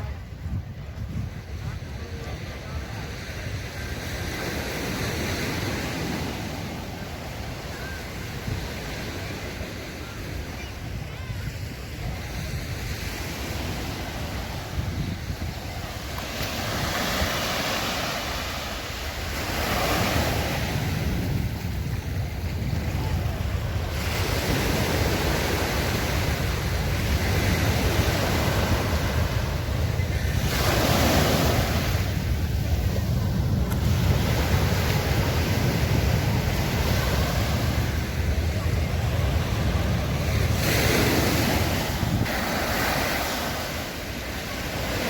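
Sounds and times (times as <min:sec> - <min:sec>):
waves breaking on beach: 0:00.0 - 0:45.0
wind on microphone: 0:00.0 - 0:45.0.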